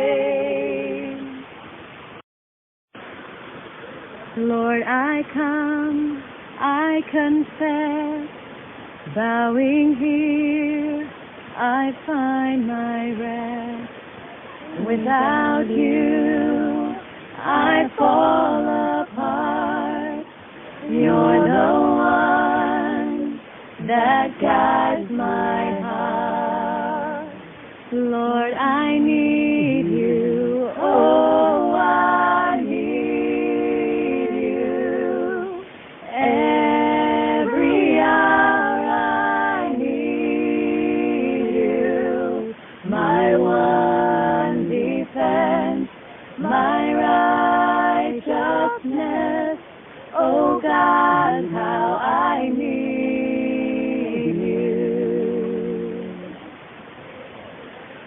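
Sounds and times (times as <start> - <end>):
woman singing unaccompanied: 0.0 - 1.5, 4.3 - 56.5.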